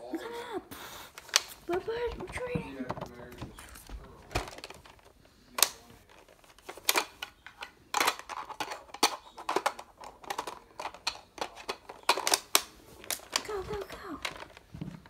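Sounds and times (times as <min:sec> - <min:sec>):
clicks and rustles of handling: 0:01.1 - 0:15.0.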